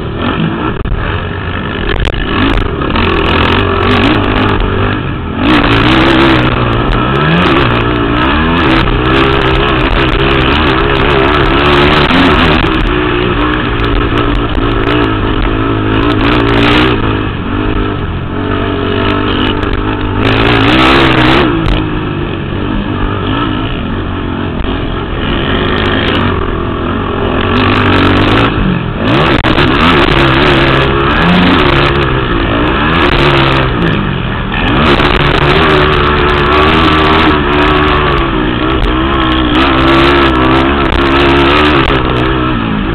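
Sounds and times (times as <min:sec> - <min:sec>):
atv engines revving: 0:00.0 - 0:42.9.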